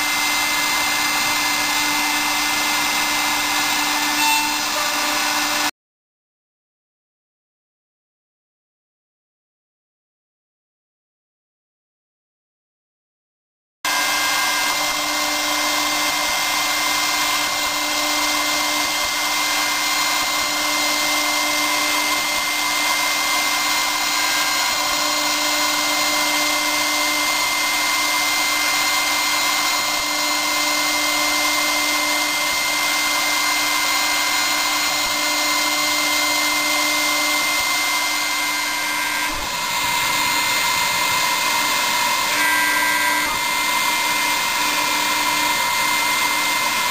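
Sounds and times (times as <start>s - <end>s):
milling machine cutting plastic: 0.0s - 5.7s, 13.9s - 46.9s.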